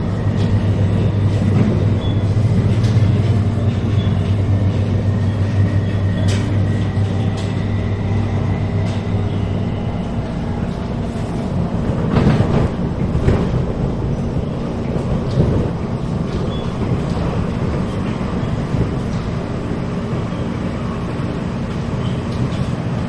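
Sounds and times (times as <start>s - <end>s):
train rattles: 0.0s - 23.0s
train wheels rumbling on track: 0.0s - 23.0s.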